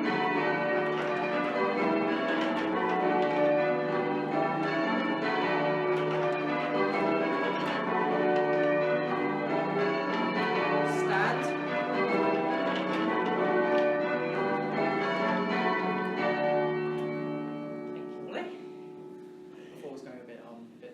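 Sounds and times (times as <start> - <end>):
church bells ringing changes: 0.0 - 20.4.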